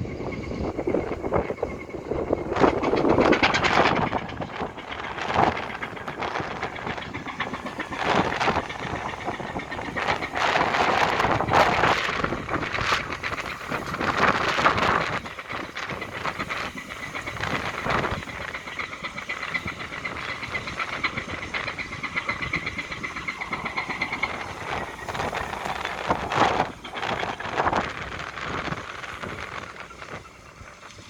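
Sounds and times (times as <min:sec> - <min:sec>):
pulsing high engine whine: 0:00.0 - 0:31.0
ship diesel engine running: 0:00.0 - 0:31.0
wind buffeting microphone: 0:00.0 - 0:31.0.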